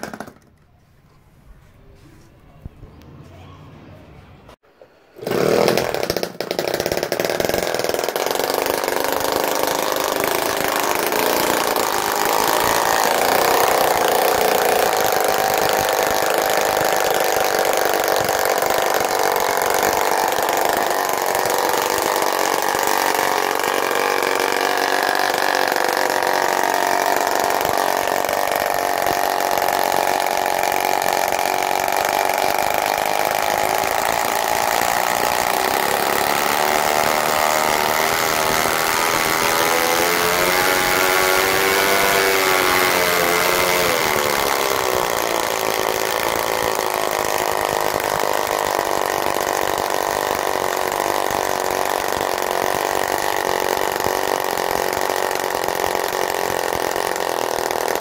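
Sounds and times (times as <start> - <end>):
model engine running: 0.0 - 0.7, 5.2 - 58.0.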